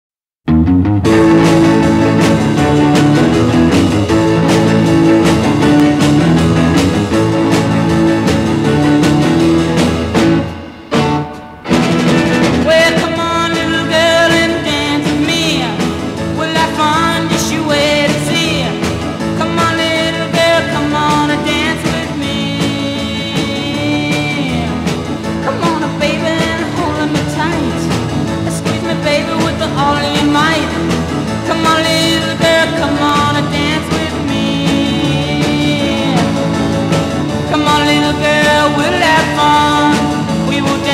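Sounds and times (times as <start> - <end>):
song with vocals and instruments: 0.6 - 40.9.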